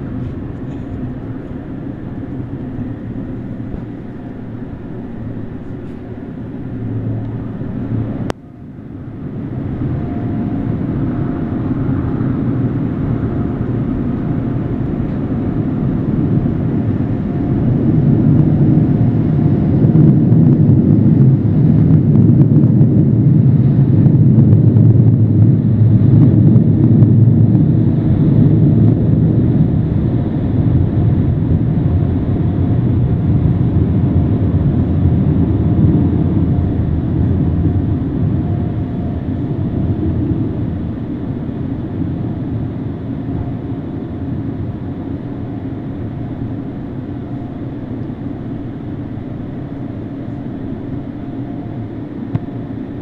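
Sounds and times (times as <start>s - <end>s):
road and engine rumble: 0.0s - 53.0s.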